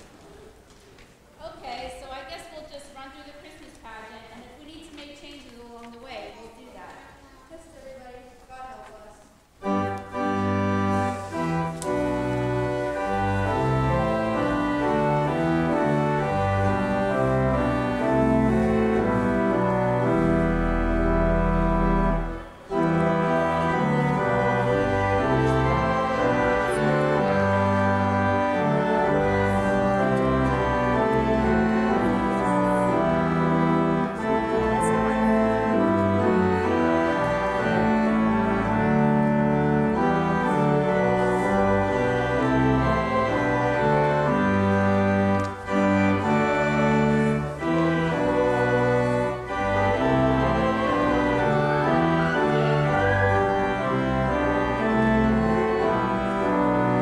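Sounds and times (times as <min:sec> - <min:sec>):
pipe organ chords: 0:09.5 - 0:57.0.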